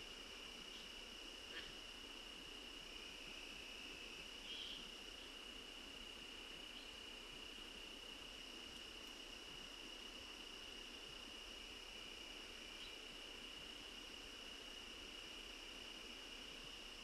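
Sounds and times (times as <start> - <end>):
insects chorus drone: 0.0 - 17.0.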